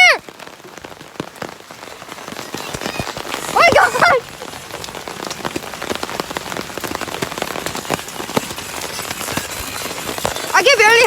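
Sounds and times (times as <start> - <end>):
hail and rain pelting: 0.0 - 11.0
sharp ticks of hailstones: 0.0 - 11.0.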